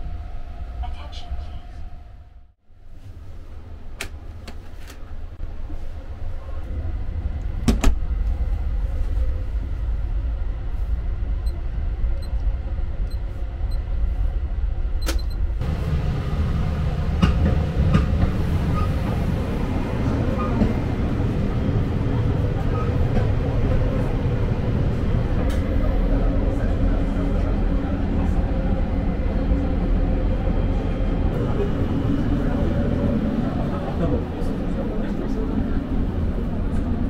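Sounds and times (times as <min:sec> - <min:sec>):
train carriage rumble: 0:00.0 - 0:37.0.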